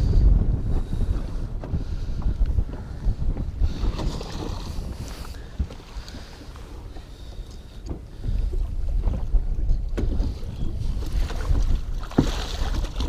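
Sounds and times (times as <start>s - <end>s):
wind buffeting microphone: 0.0s - 13.0s
water lapping against boat: 0.6s - 13.0s.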